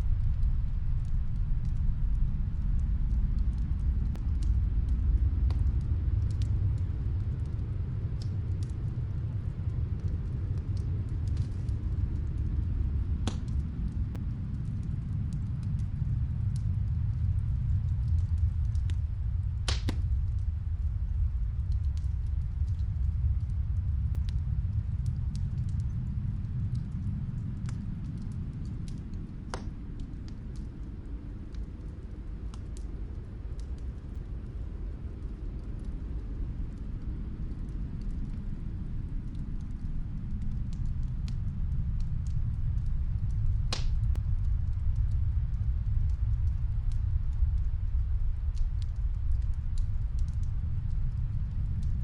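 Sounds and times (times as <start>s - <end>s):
low rumble of storm wind: 0.0s - 52.0s
wood fire crackling and popping: 0.0s - 52.0s.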